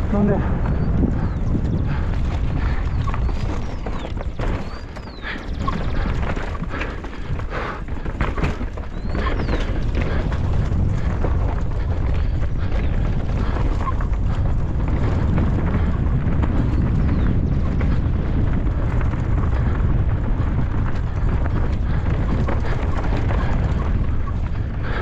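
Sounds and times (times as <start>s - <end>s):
bike rattling over rocks: 0.0s - 25.0s
wind and tyre noise: 0.0s - 25.0s.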